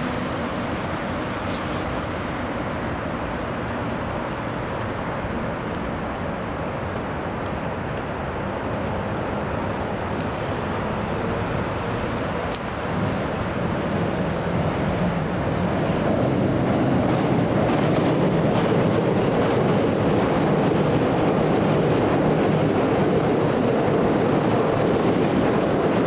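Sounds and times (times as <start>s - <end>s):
traffic drone: 0.0s - 26.0s.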